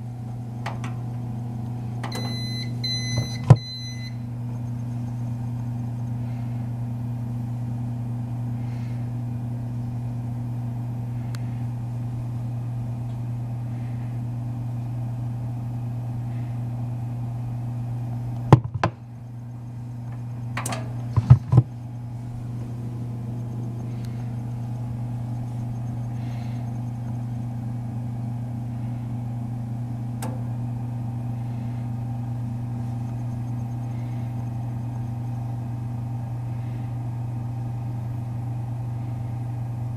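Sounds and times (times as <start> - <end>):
toaster oven humming: 0.0 - 39.9.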